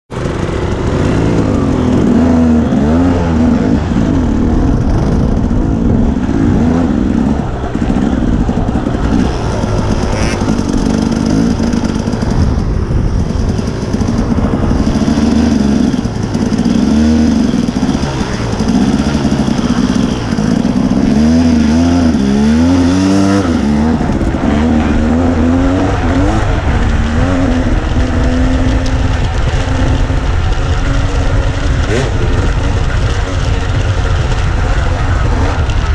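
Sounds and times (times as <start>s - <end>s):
dirt bike engine revving: 0.1s - 35.9s
rushing noise: 0.1s - 35.9s.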